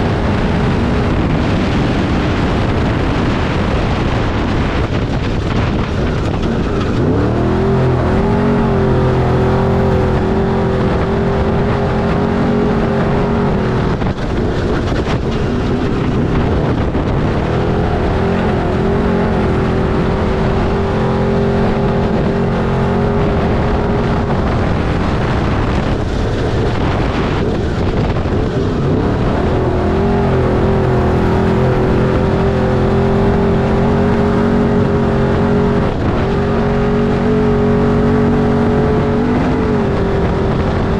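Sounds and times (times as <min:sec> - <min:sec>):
race truck engine revving: 0:00.0 - 0:40.9.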